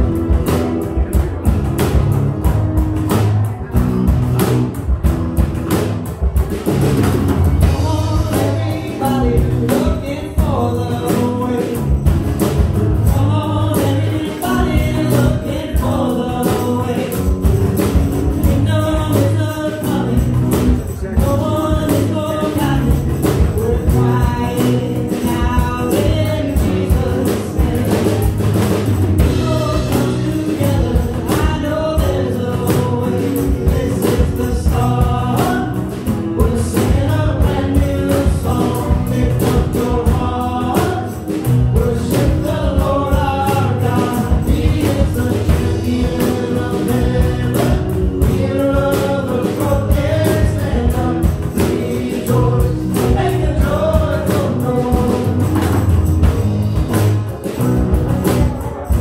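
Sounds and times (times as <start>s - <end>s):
acoustic guitar: 0.0s - 59.0s
drum beat: 0.0s - 59.0s
voices singing together: 7.6s - 56.2s.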